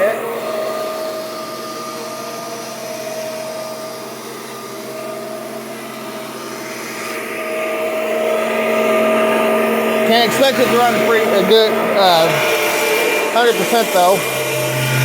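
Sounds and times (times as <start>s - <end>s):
upright vacuum running: 0.0s - 15.0s.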